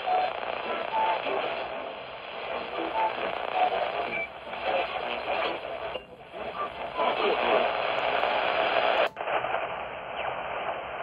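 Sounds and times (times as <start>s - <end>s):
faint broken radio programme: 0.0s - 11.0s
radio static hiss: 0.0s - 11.0s.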